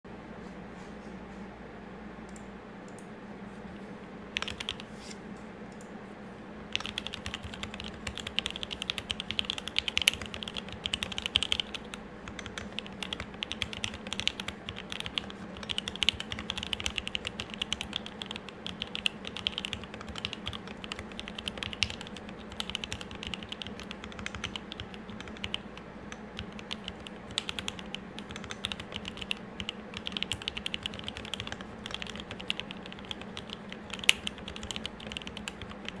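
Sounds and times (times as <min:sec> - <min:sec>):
mechanical keyboard typing: 0:04.4 - 0:04.9, 0:06.7 - 0:36.0.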